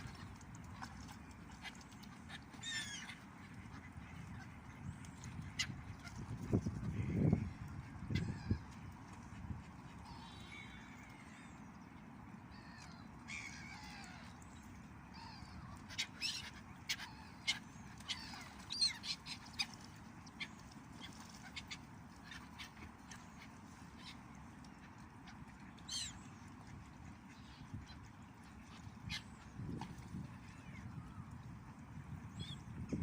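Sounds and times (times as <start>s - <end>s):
ducks and birds calling: 0.0s - 33.0s
low background noise: 0.0s - 33.0s.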